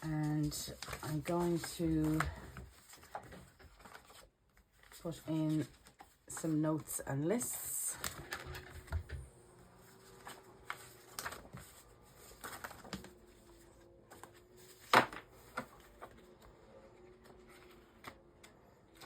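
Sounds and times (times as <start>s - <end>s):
paper rustling: 0.0s - 9.2s, 9.8s - 19.0s.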